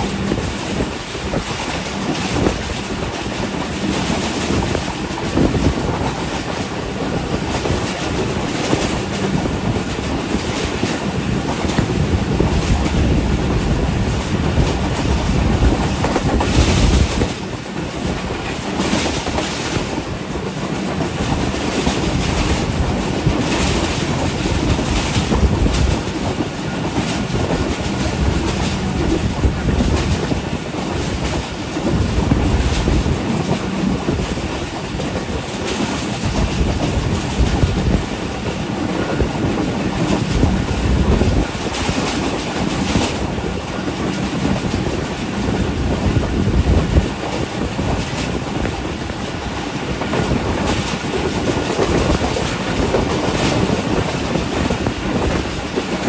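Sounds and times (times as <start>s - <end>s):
train wheels rumbling on rail: 0.0s - 56.0s
wheels clattering over rail joints: 0.0s - 56.0s.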